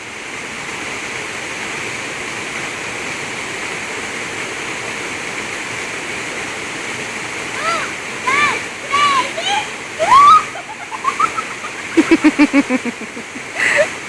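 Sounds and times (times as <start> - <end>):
waterfall pouring: 0.0 - 14.0.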